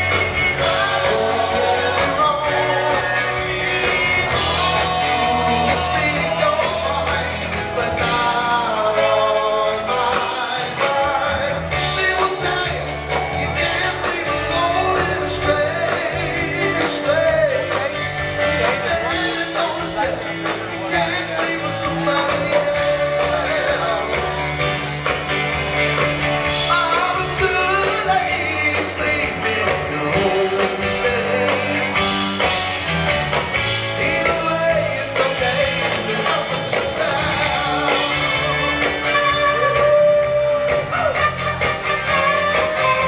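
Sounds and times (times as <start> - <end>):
lead vocal singing: 0.0 - 25.3, 26.2 - 43.0
rock band playing live: 0.0 - 43.0.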